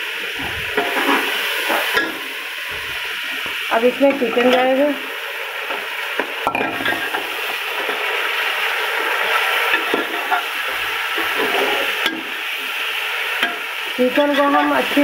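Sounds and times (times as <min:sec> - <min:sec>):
chicken sizzling in hot fat: 0:00.0 - 0:15.0.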